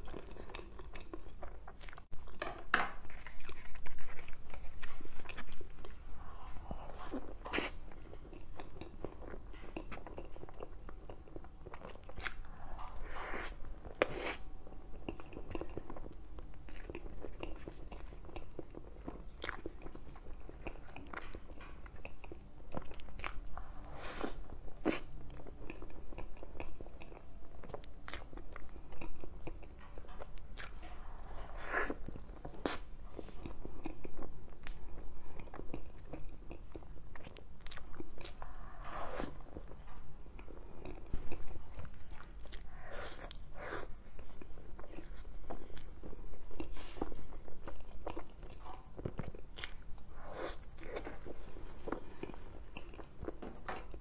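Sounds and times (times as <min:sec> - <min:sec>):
chewing and biting cake: 0:00.0 - 0:02.4, 0:03.0 - 0:54.0.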